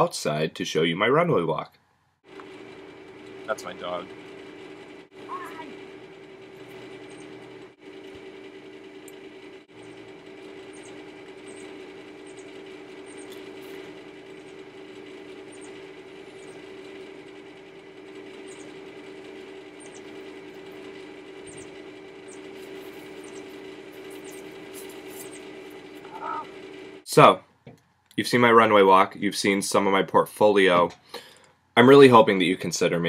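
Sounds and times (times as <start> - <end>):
machine hum with two low tones: 0.0 - 33.0.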